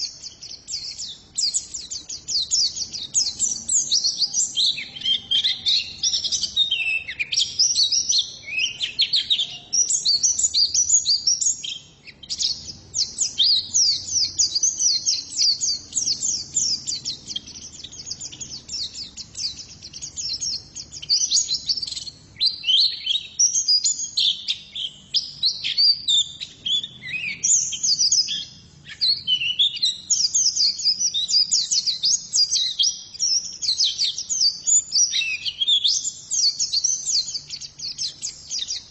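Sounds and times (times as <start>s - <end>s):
bird twittering chirps: 0.0s - 38.9s.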